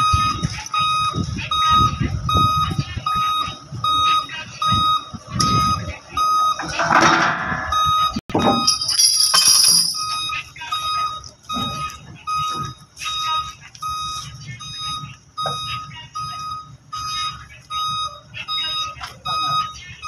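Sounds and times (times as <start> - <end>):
backup warning beeper: 0.0 - 20.0.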